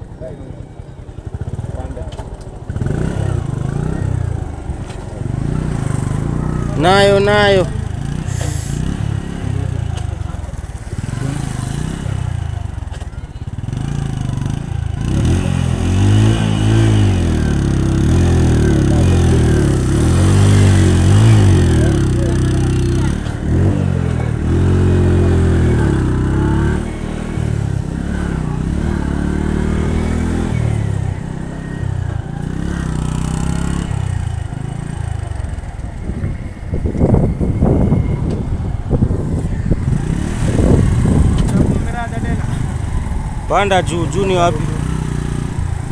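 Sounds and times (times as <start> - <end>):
road and wind noise: 0.0 - 45.9
motorcycle engine revving: 0.5 - 45.9.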